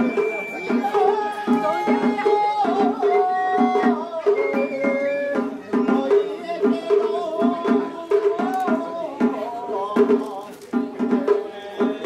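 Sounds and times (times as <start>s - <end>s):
fast pitched drum beats: 0.0s - 12.0s.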